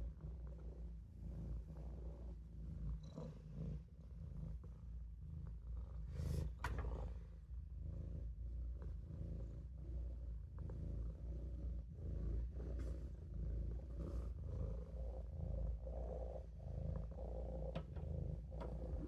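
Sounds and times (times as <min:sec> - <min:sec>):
kitten purring: 0:00.0 - 0:19.0.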